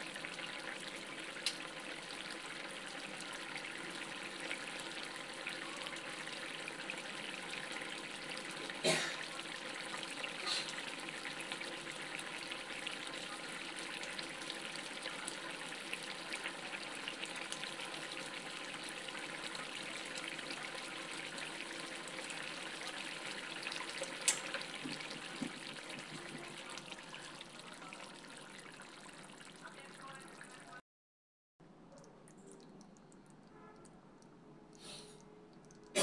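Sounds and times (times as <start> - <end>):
soup bubbling in a pot: 0.0 - 30.8.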